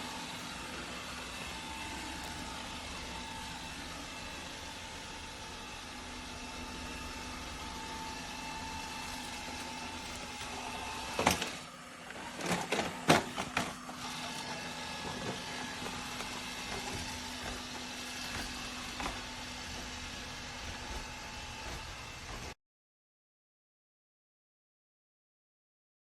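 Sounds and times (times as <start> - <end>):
robot vacuum whirring: 0.0 - 22.6.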